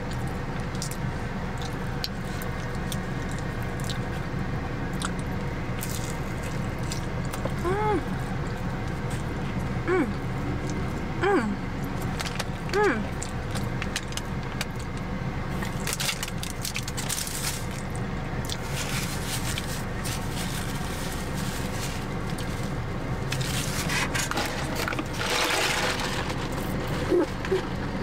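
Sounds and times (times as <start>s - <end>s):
chewing with crunches: 0.0s - 11.1s, 11.8s - 27.9s
low car cabin hum: 0.0s - 28.0s.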